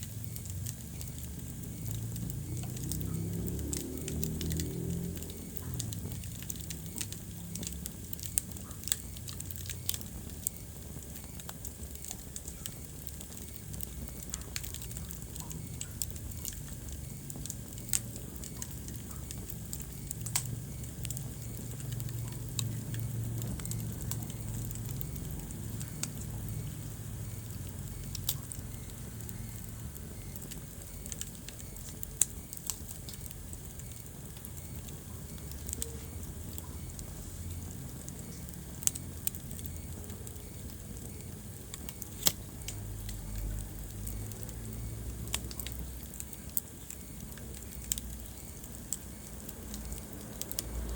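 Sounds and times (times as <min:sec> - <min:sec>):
fire crackling and popping: 0:00.0 - 0:50.9
low rumble of flame: 0:00.0 - 0:50.9.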